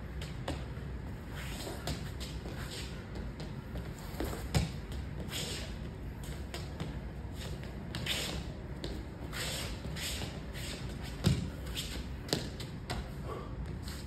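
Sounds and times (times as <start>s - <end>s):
shoes scuffing on foam mats: 1.2s - 14.0s.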